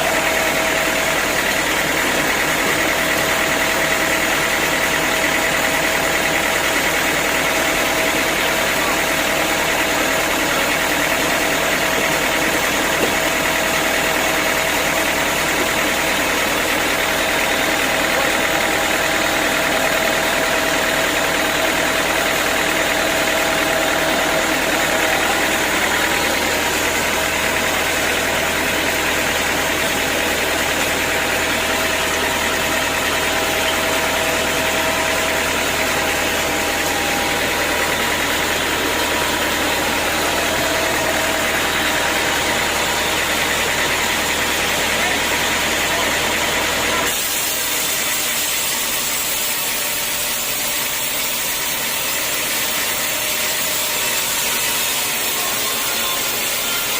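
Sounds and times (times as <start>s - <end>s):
constant high whine: 0.0s - 56.9s
sawmill machinery drone: 0.0s - 56.9s.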